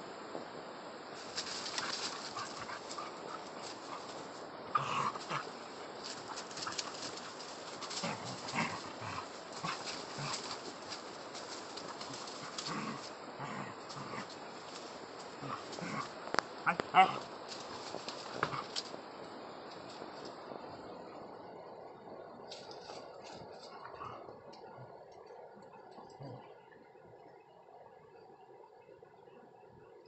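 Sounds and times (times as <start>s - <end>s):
leaves and twigs rustling: 1.0s - 26.4s.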